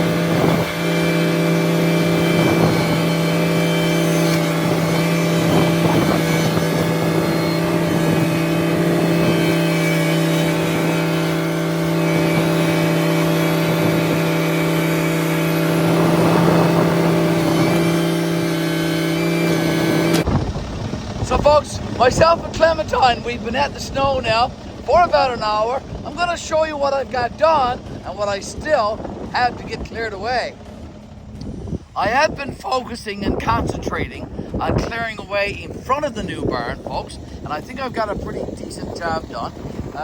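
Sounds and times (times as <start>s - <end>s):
tractor engine running: 0.0s - 40.0s
wind on microphone: 0.0s - 40.0s.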